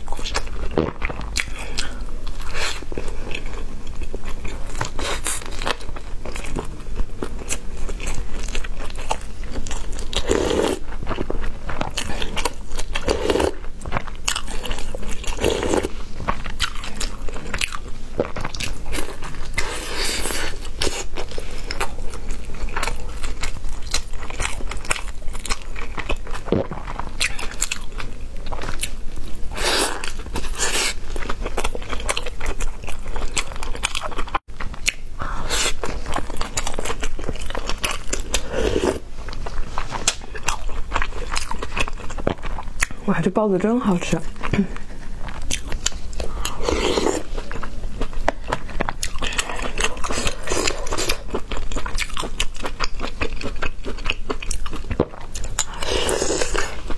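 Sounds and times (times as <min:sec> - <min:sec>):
person chewing food: 0:00.0 - 0:43.0, 0:44.3 - 0:56.9.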